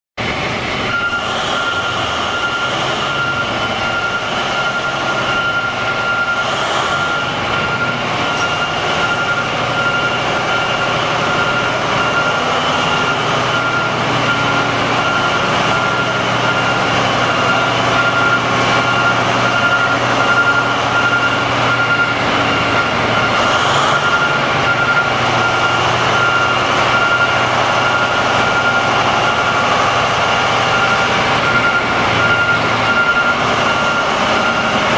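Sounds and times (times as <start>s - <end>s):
high-pitched whine: 0.2s - 34.9s
machinery drone: 0.2s - 34.9s.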